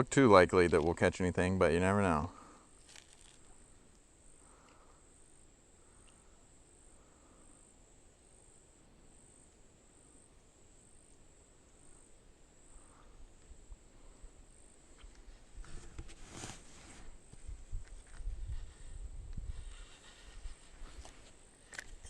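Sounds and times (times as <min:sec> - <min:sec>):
faint insect trill: 0:00.1 - 0:15.8, 0:17.0 - 0:22.0.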